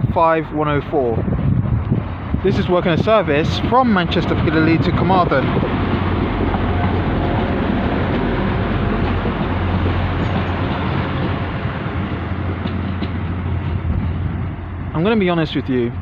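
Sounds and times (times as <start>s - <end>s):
diesel engine hum: 0.0s - 16.0s
train wheels rolling on rails: 1.7s - 16.0s.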